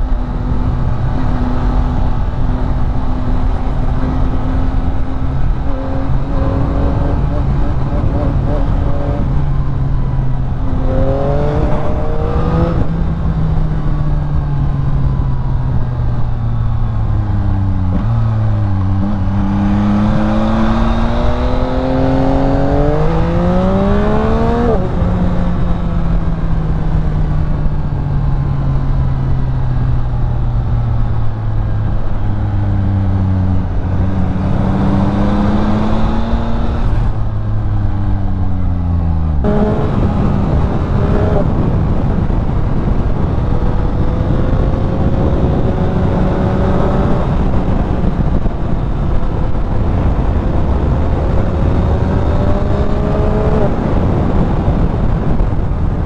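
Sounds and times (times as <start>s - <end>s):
motorcycle engine revving and shifting: 0.0s - 56.0s.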